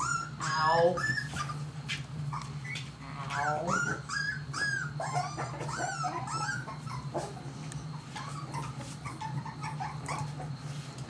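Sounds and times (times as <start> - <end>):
puppies whimpering and yipping: 0.0 - 11.0.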